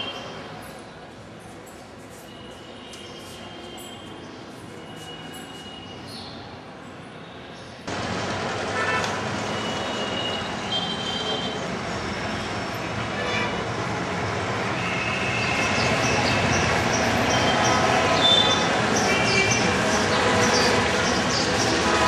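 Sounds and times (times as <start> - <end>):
town traffic noise: 0.0 - 22.0.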